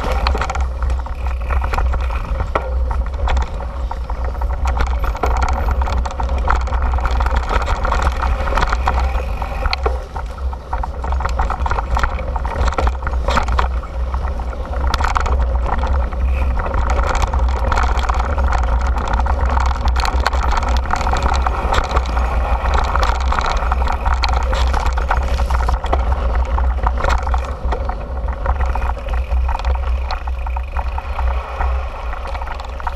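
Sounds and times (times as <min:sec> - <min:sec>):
bike rattling over rough ground: 0:00.0 - 0:32.9
wind rumble on microphone: 0:00.0 - 0:32.9.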